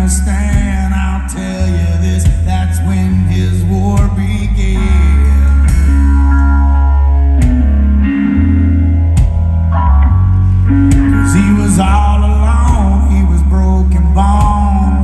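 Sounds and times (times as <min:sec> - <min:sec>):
lead guitar bending notes: 0:00.0 - 0:15.0
rock band playing: 0:00.0 - 0:15.0.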